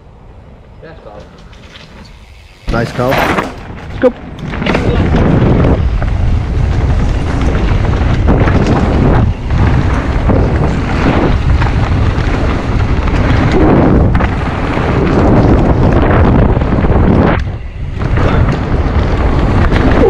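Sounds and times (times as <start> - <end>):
bike tyres and suspension rattling: 1.0 - 20.0
wind buffeting microphone: 2.1 - 20.0.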